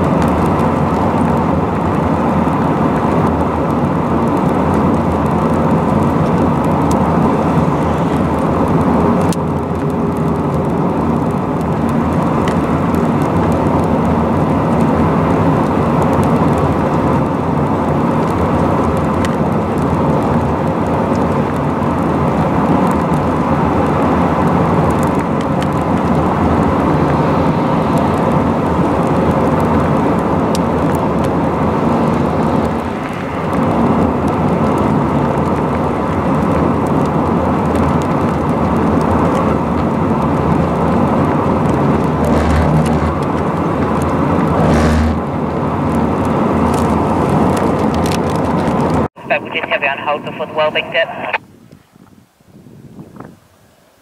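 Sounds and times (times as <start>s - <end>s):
tyre noise on road: 0.0s - 49.2s
wind noise: 0.0s - 49.3s, 51.4s - 54.0s
car engine noise: 0.0s - 51.4s.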